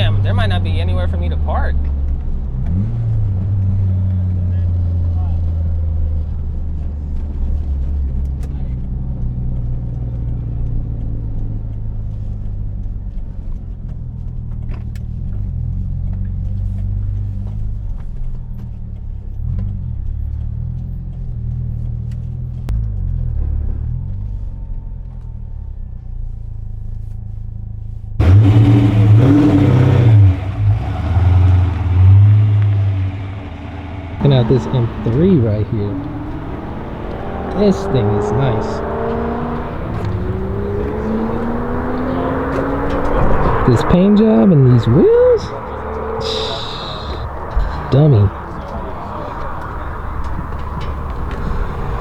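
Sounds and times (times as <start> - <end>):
car engine running at low revs: 0.0 - 52.0.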